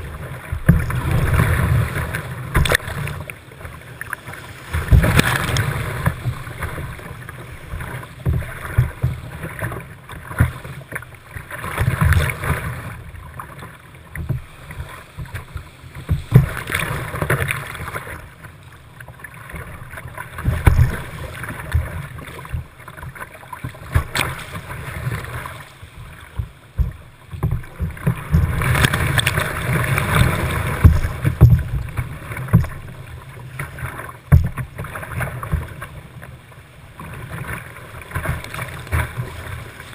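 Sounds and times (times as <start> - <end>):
waves slapping against hull: 0.0 - 39.9.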